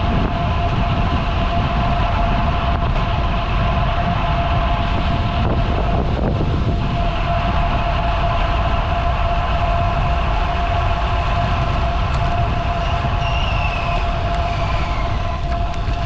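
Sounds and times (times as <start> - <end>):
faint whine falling in pitch: 0.0 - 16.0
steady high hum: 0.0 - 16.0
wind rumbling on microphone: 0.0 - 16.0.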